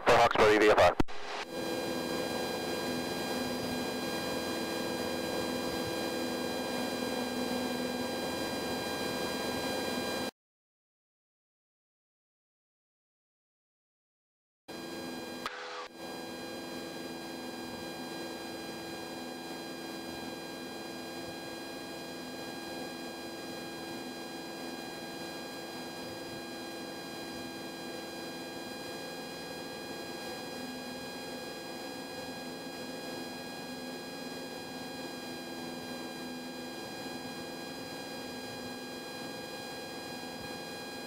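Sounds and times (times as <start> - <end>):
airplane engine drone in cabin: 0.0 - 10.3, 15.9 - 41.0.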